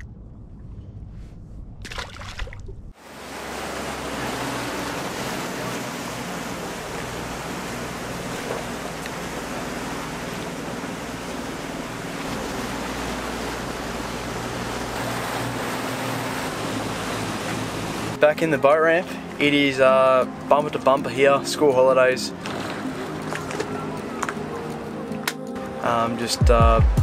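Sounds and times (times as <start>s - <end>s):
boat motor humming: 0.0s - 26.2s
wind and water rushing: 1.8s - 26.5s.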